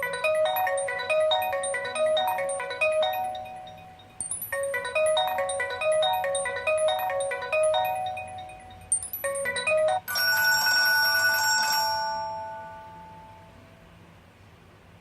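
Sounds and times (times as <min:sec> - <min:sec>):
bell-like ringtone: 0:00.0 - 0:13.8.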